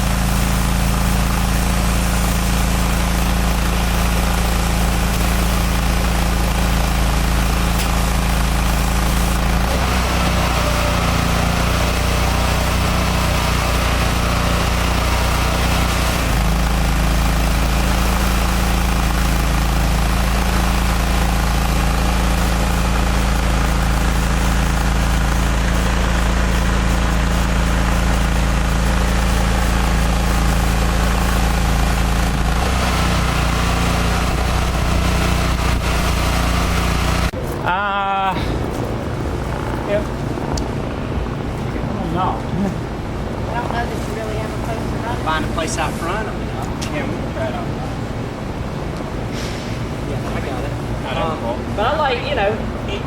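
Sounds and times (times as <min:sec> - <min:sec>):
pressure washer engine drone: 0:00.0 - 0:53.0.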